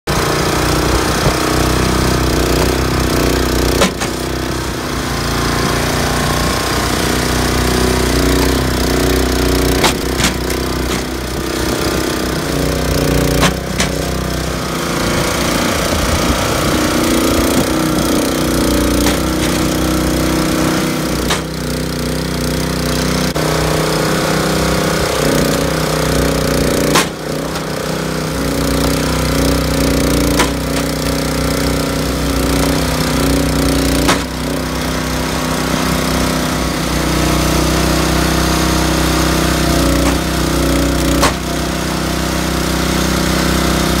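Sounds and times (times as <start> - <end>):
log splitter engine running: 0.1 - 44.0.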